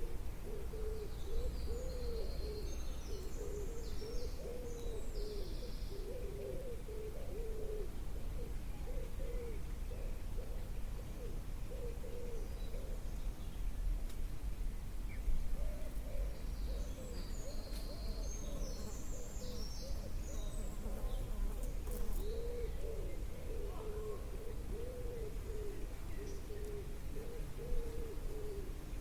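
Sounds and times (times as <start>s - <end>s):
birds cooing: 0.0s - 13.3s, 15.5s - 29.0s.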